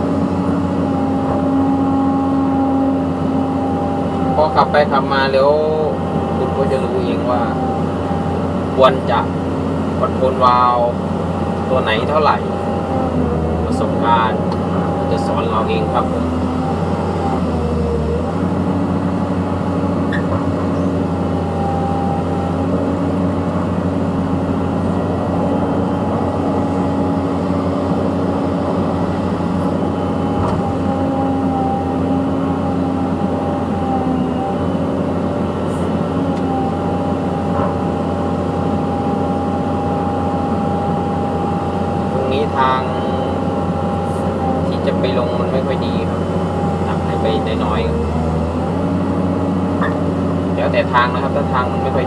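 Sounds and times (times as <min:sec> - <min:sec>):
excavator diesel engine droning: 0:00.0 - 0:52.0.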